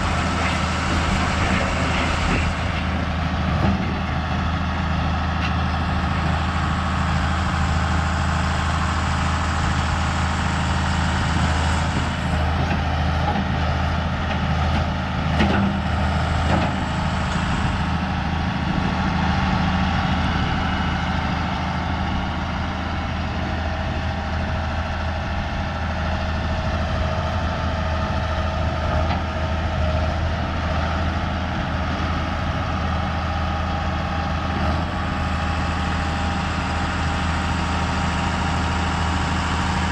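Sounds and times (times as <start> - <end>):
heavy machinery engine humming: 0.0 - 39.9.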